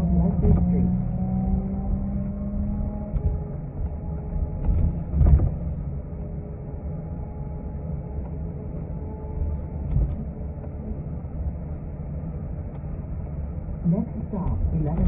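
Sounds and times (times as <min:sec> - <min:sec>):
bus rumbling in motion: 0:00.0 - 0:15.0.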